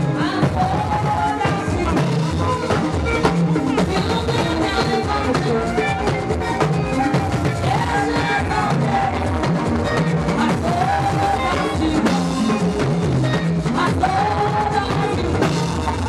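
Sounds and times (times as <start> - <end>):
live band with drums: 0.0 - 16.0.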